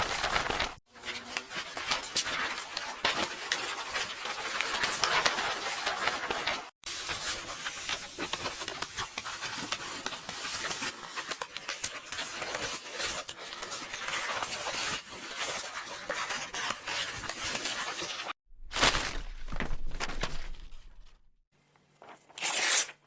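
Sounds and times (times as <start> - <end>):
book pages rustling: 0.0 - 22.7.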